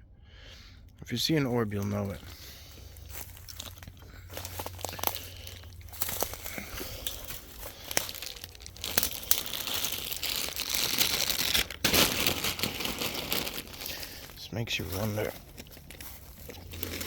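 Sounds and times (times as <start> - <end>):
dry leaves crackling and rustling: 1.5 - 17.0.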